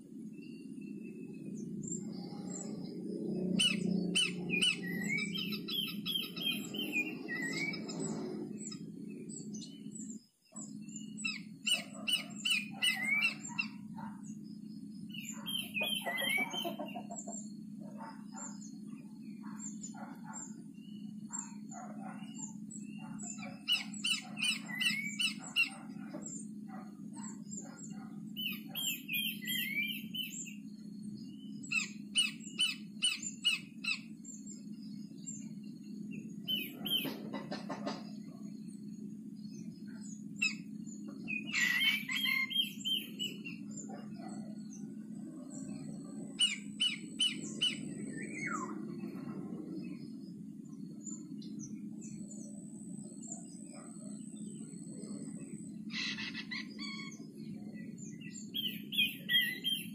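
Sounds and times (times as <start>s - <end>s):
steady low hum: 0.0s - 59.9s
bird chirps and whistled notes: 0.2s - 37.5s, 39.6s - 44.8s, 45.6s - 54.7s, 55.4s - 59.9s.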